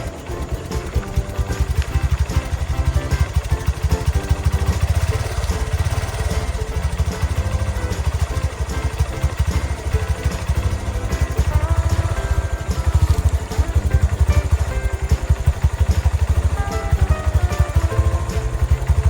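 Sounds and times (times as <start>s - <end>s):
background music with melody: 0.0s - 19.0s
small engine chugging: 0.0s - 19.0s.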